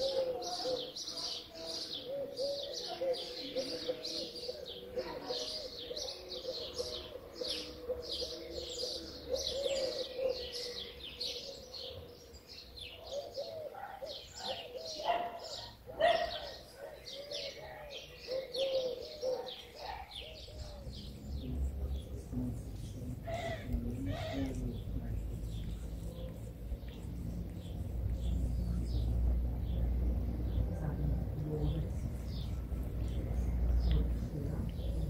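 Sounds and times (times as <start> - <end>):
low cooing call: 0.0 - 1.1, 2.0 - 12.1, 13.1 - 15.1, 17.1 - 35.0
birds chirping: 0.0 - 35.0.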